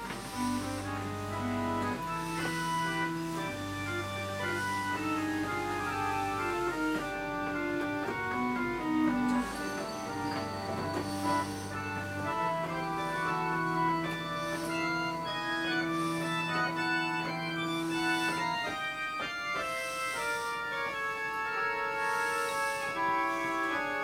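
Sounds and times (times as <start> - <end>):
organ playing chords and melody: 0.0 - 24.0.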